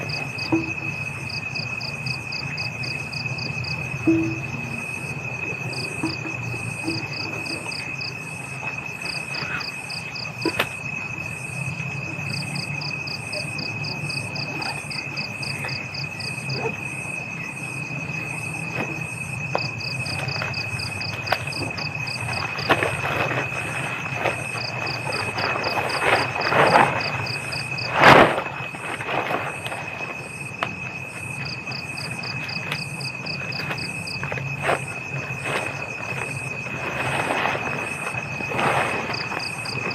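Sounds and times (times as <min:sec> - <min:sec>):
crickets trilling: 0:00.0 - 0:39.9
high-pitched insect drone: 0:00.0 - 0:39.9.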